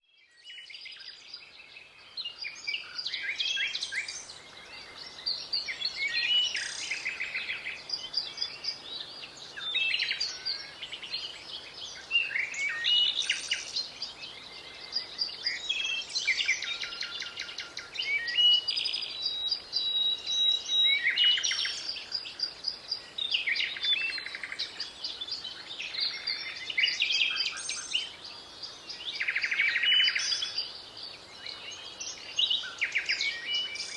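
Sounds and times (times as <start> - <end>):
small songbirds chirping: 0.0 - 33.9.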